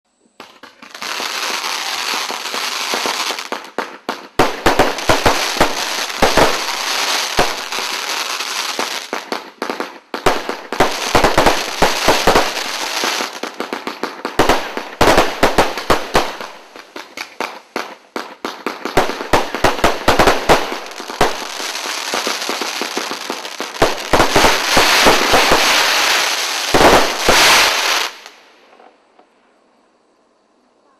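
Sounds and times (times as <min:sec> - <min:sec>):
fireworks hiss: 0:00.2 - 0:28.7
fireworks bangs: 0:00.4 - 0:28.9.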